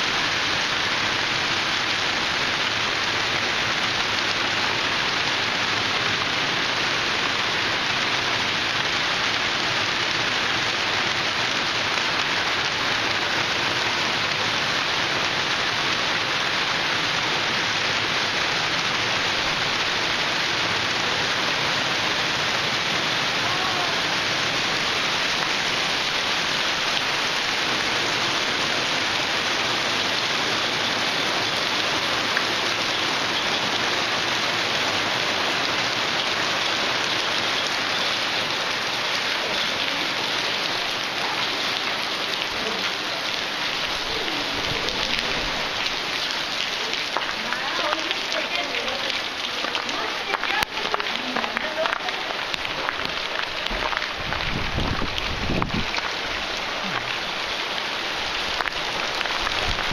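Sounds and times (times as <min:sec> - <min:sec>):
hail hitting the ground: 0:00.0 - 0:59.9.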